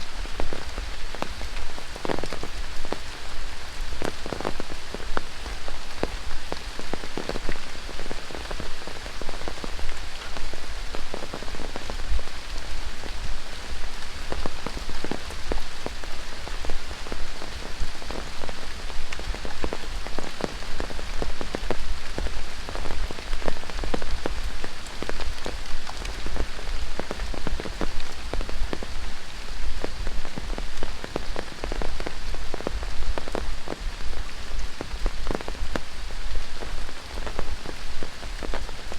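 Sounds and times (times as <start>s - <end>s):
close raindrop hits: 0.0s - 38.9s
rain hissing: 0.0s - 38.9s.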